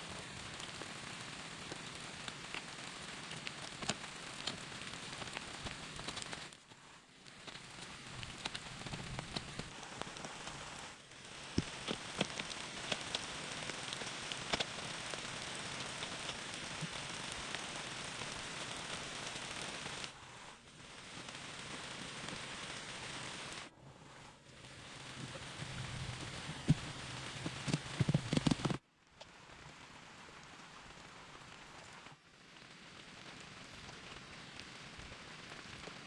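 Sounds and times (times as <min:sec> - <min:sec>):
rain pattering: 0:00.0 - 0:23.7, 0:24.5 - 0:36.0.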